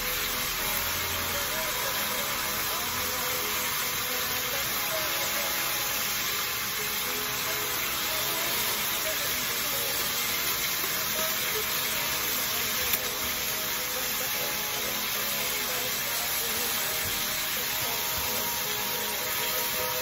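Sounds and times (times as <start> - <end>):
liver sizzling in frying pan: 0.0 - 20.0.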